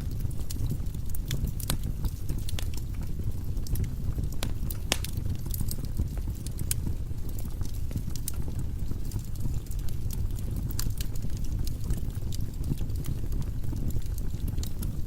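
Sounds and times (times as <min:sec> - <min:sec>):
firewood burning with crackles: 0:00.0 - 0:15.0.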